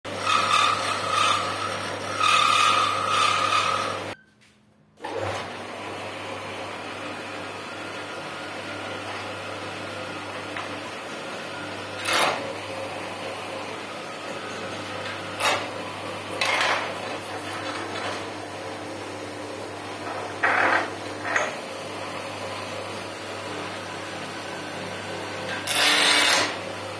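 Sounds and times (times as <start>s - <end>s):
lathe scraping noises: 0.1s - 4.2s, 6.8s - 18.6s, 19.9s - 26.8s
wood lathe motor hum: 0.1s - 4.2s, 5.0s - 26.9s.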